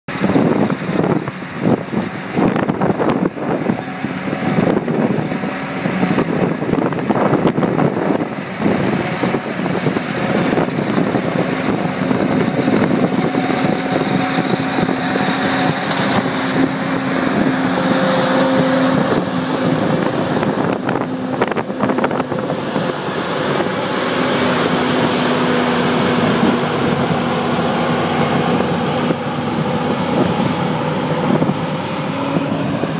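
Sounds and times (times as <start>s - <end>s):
forage harvester engine and chopper drone: 0.1s - 32.9s
wind buffeting microphone: 0.1s - 32.9s.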